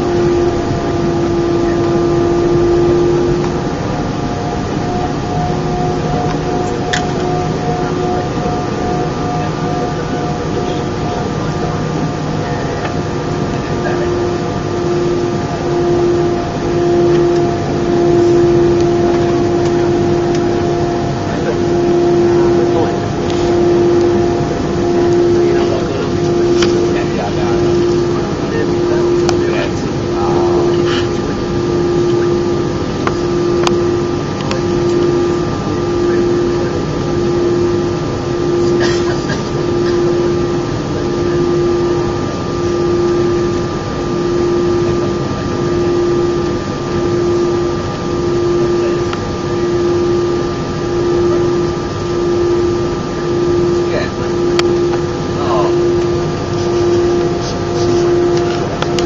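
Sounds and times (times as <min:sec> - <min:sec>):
jet engine drone with whine: 0:00.0 - 0:59.0.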